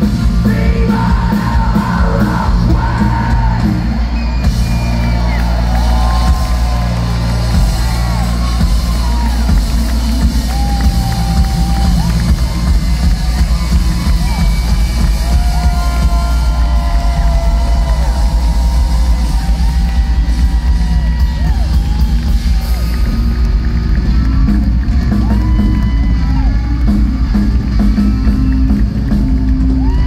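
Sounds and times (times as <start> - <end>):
bass guitar: 0.0 - 30.0
drum kit: 0.0 - 30.0.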